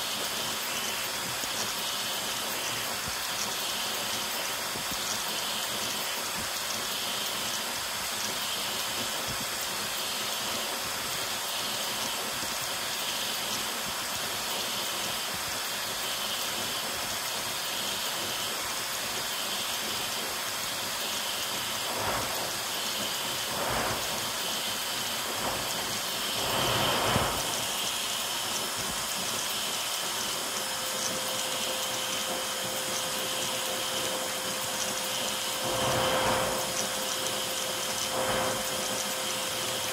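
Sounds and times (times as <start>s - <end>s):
cooling blower hissing: 0.0s - 39.9s.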